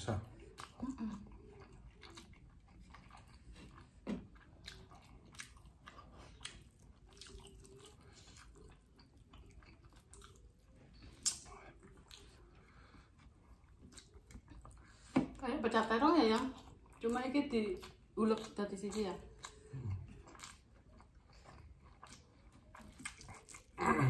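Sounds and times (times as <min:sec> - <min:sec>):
chewing and mouth smacks: 0:00.0 - 0:15.4, 0:16.3 - 0:23.8.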